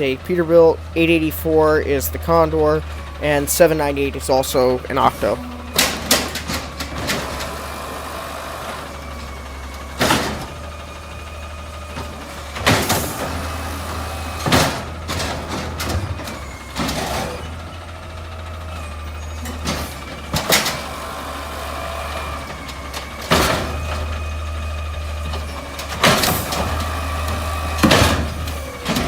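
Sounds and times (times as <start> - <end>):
truck engine humming: 0.0 - 29.0.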